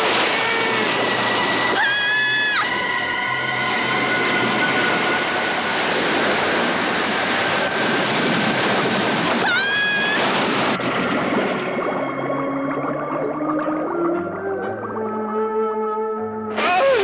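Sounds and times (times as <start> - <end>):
heavy waves: 0.0 - 15.2
wind: 0.0 - 17.0.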